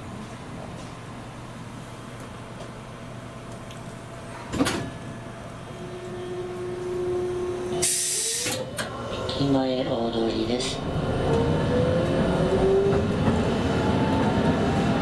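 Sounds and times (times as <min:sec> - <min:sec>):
tram electrical hum: 0:00.0 - 0:15.0.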